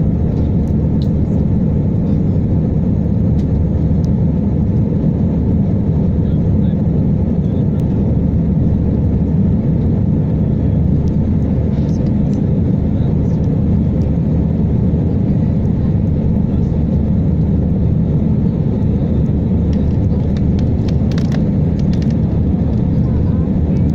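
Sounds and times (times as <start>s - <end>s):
jet engine cabin rumble: 0.0s - 23.9s.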